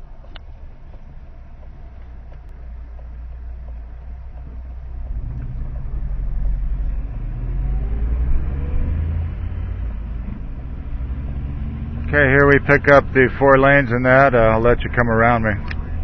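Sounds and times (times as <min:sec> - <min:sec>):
road rumble: 0:00.0 - 0:16.0
vehicle engine accelerating: 0:00.4 - 0:16.0.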